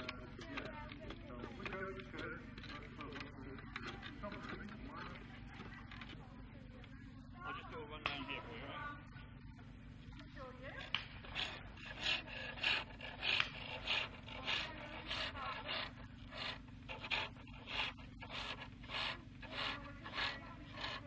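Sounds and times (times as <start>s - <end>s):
pole lathe scraping wood: 0.0s - 6.2s, 10.2s - 21.0s.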